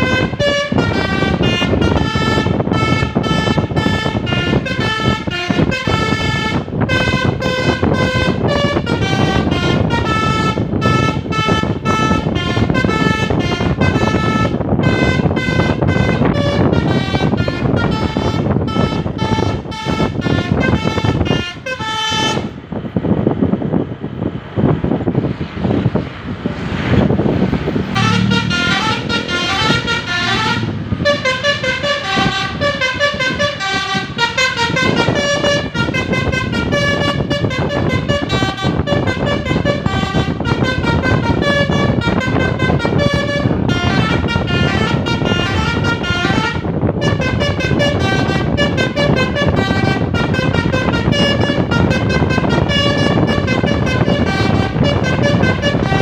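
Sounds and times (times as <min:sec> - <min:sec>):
bus musical horn tooting: 0:00.0 - 0:56.0
road and engine noise: 0:00.0 - 0:56.0.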